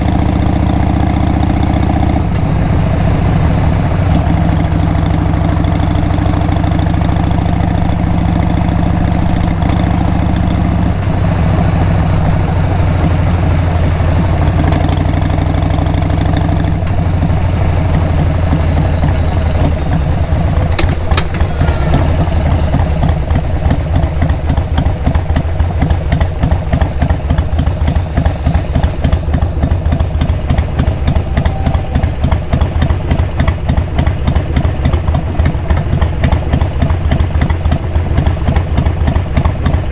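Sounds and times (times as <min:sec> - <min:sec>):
motorcycle engine idling: 0:00.0 - 0:39.9
motorcycle engine running: 0:00.0 - 0:39.9.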